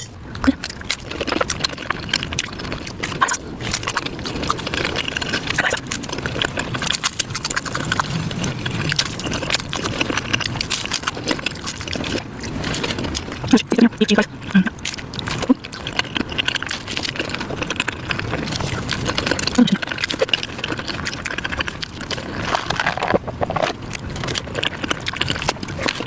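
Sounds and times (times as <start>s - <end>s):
sped-up chewing and biting: 0.3s - 26.0s.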